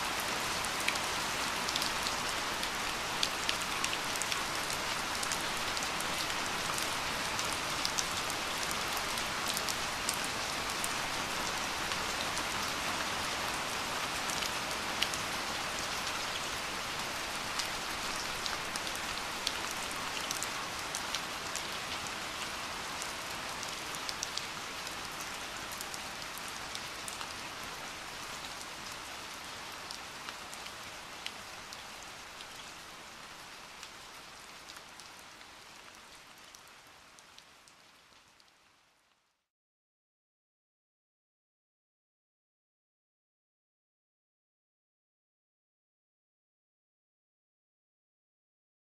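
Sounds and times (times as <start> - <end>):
steady rain falling: 0.0 - 39.5.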